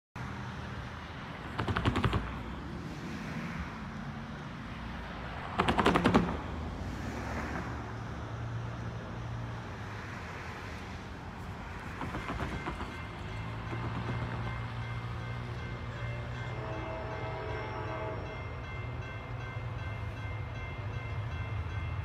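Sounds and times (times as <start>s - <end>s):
distant diesel locomotive hum: 0.2s - 22.0s.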